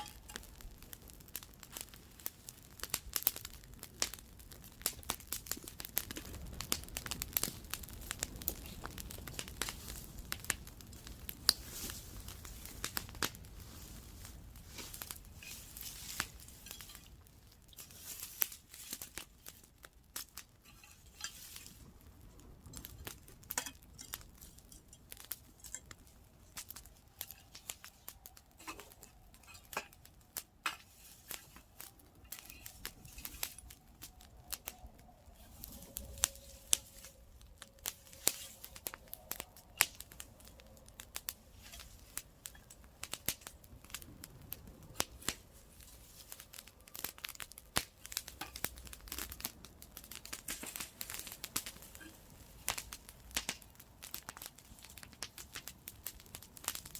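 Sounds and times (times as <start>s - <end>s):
campfire crackling and popping: 0.0s - 56.9s.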